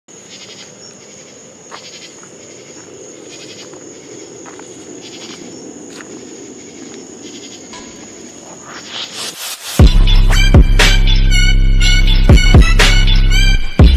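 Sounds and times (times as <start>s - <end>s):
insects trilling: 0.1s - 13.9s
rhythmic insect chirping: 0.1s - 13.9s.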